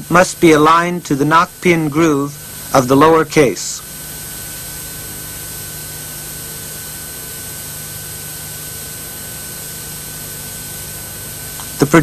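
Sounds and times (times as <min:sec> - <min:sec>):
tape hiss: 0:00.0 - 0:12.0.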